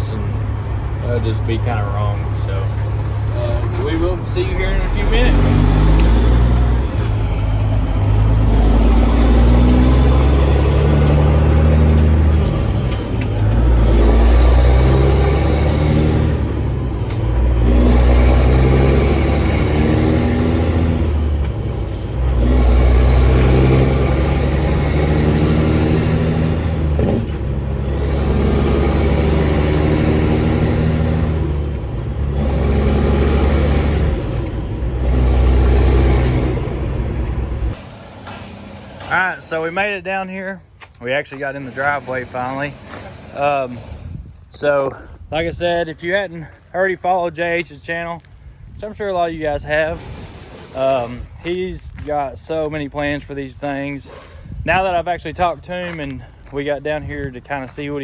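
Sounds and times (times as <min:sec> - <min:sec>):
truck diesel engine under load: 0:00.0 - 0:46.7, 0:47.4 - 0:58.0.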